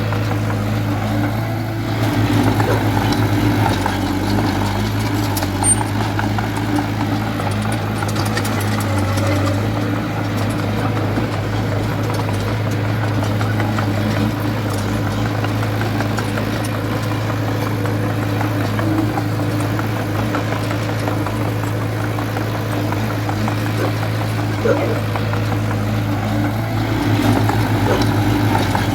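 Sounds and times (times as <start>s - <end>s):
diesel engine running steadily: 0.0s - 28.9s.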